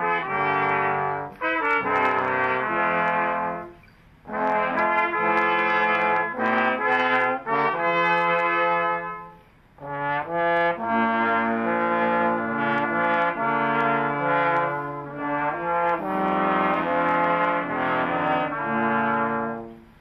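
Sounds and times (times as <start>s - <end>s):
brass instruments playing chords: 0.0s - 20.0s.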